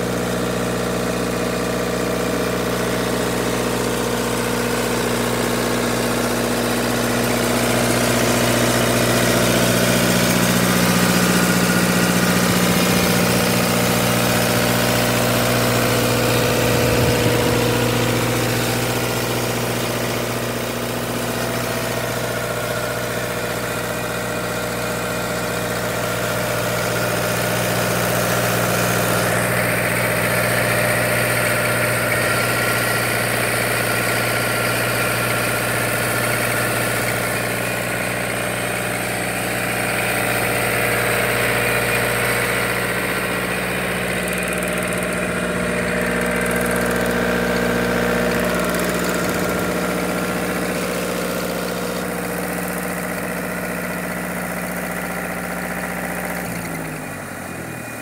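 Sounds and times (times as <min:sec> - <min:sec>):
generator engine humming: 0:00.0 - 0:58.0.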